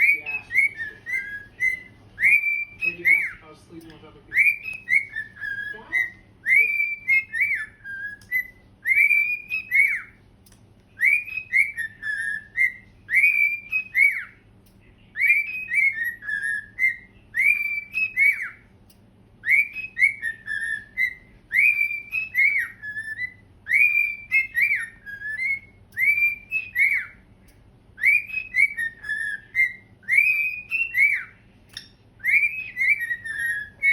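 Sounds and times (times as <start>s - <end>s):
cockatiels whistling a tune: 0.0s - 3.6s, 4.2s - 10.2s, 11.0s - 14.5s, 15.1s - 18.8s, 19.4s - 33.9s.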